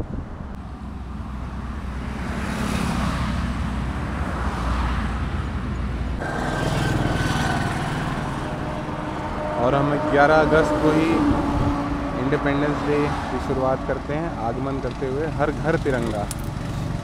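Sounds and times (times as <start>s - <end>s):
vehicle engine rumble: 0.0s - 17.0s
wind and road hiss: 0.0s - 17.0s.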